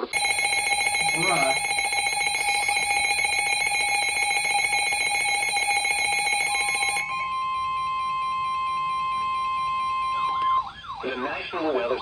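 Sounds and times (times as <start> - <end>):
rapid electronic alarm beeping: 0.0 - 10.1
steady single alarm tone: 0.0 - 10.6.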